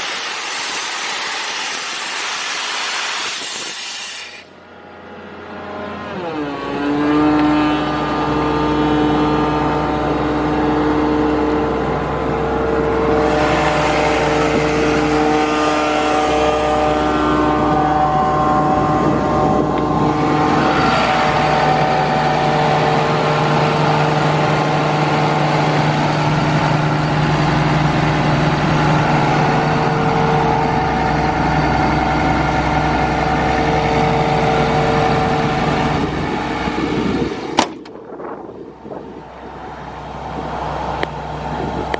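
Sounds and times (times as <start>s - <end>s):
rushing noise: 0.0s - 6.2s, 9.0s - 41.8s
diesel air compressor running: 0.0s - 41.9s.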